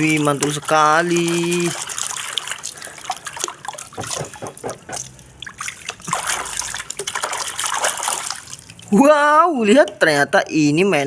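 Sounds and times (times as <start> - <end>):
water trickling and splashing: 0.0 - 10.3.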